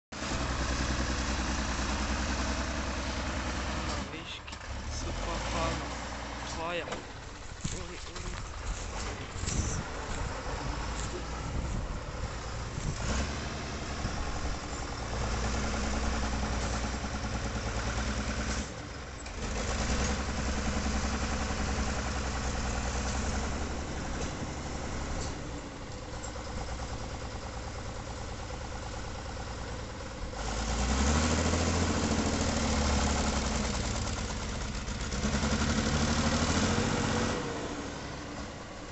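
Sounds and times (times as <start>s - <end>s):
tractor engine working hard: 0.1s - 38.9s.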